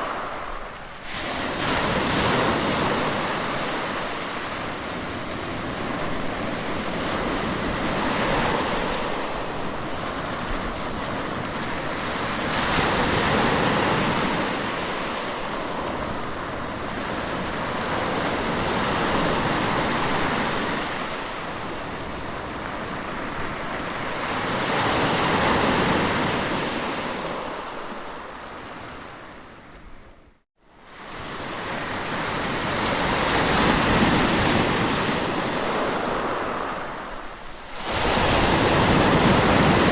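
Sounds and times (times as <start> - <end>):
sea waves washing onto shore: 0.0 - 28.8, 30.8 - 39.9.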